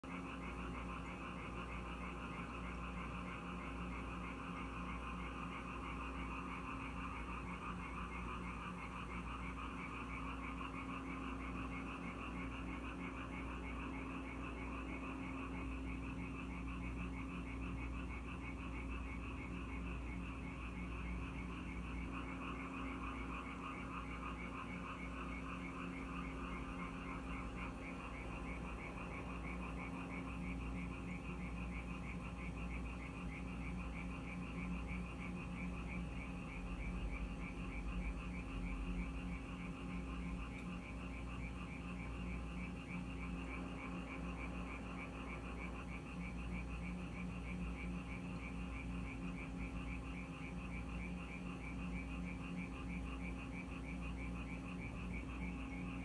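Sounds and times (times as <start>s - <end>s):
tree frogs chorus: 0.0s - 56.0s.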